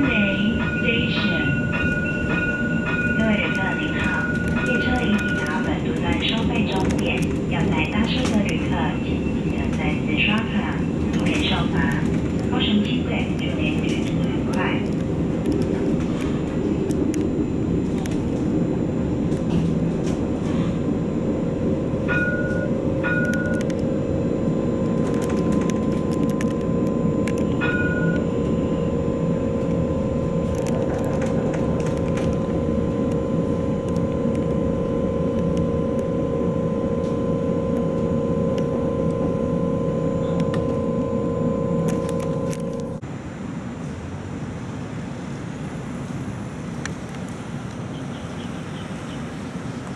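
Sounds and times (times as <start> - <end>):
tram electric whine: 0.0 - 49.9
tram rumble: 0.0 - 49.9.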